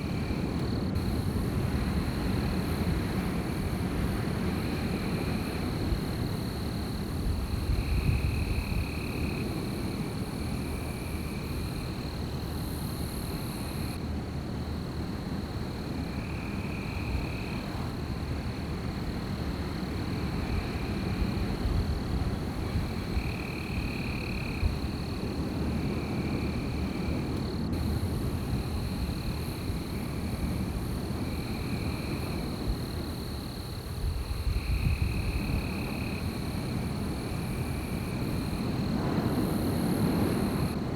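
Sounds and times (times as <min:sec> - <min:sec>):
wind blowing: 0:00.0 - 0:40.9.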